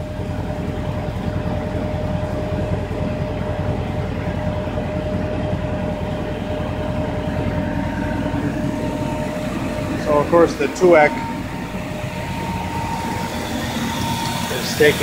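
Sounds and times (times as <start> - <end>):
car engine idling: 0.0 - 15.0
vacuum running: 0.0 - 15.0.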